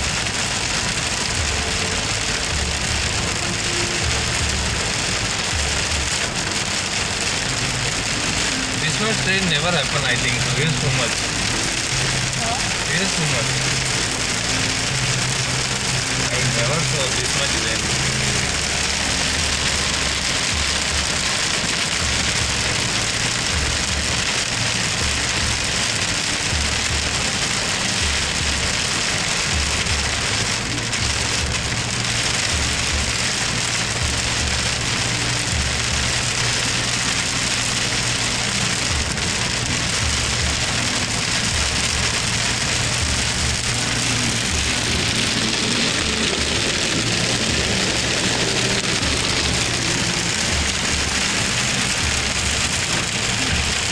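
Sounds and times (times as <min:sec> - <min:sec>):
heavy rain on car windshield: 0:00.0 - 0:53.9.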